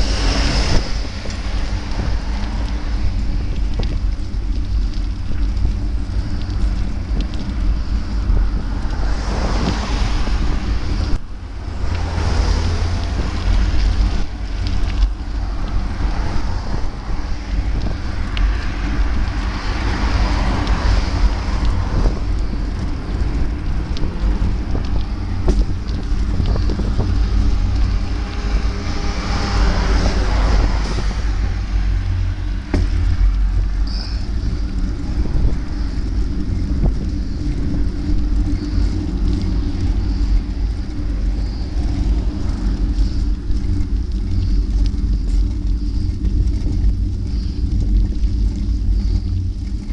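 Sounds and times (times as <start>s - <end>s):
rushing road noise: 0.0s - 49.9s
wind buffeting microphone: 0.0s - 49.9s.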